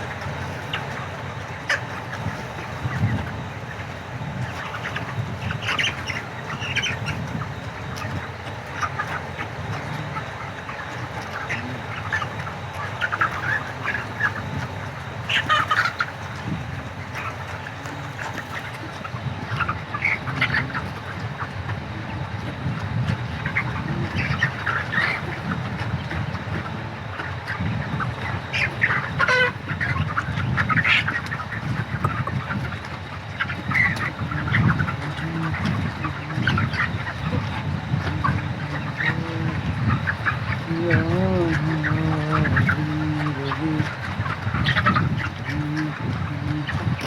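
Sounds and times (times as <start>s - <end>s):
chickens chirping and squawking: 0.0s - 47.0s
steady low hum: 0.0s - 47.0s.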